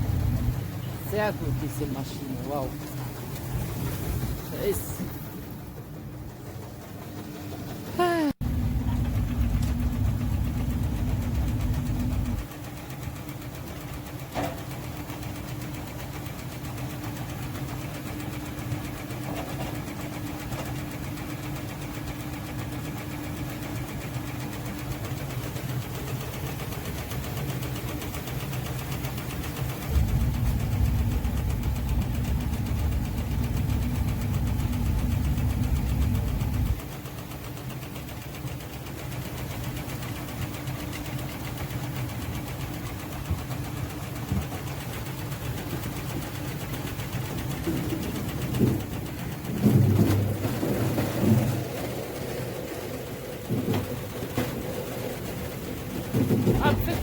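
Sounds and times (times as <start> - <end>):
machinery motor humming and rumbling: 0.0 - 57.0.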